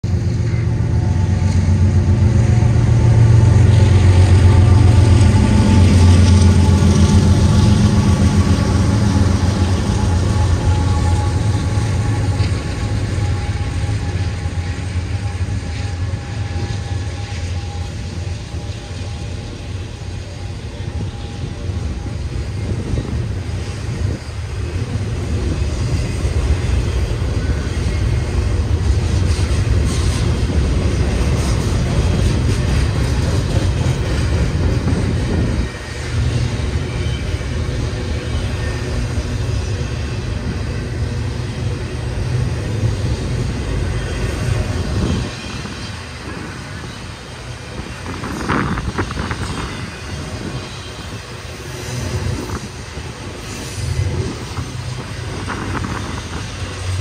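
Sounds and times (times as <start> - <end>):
diesel locomotives droning: 0.0 - 57.0
freight cars rumbling over rails: 0.0 - 57.0.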